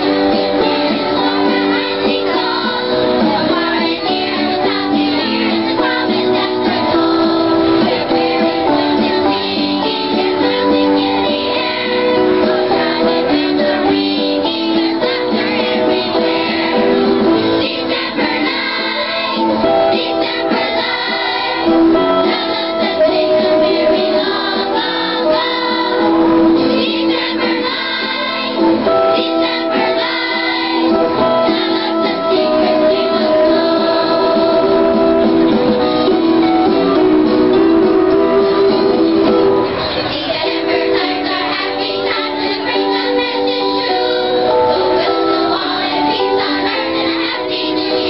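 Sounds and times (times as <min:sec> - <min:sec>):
children's choir singing: 0:00.0 - 0:48.0
instrumental accompaniment: 0:00.0 - 0:48.0.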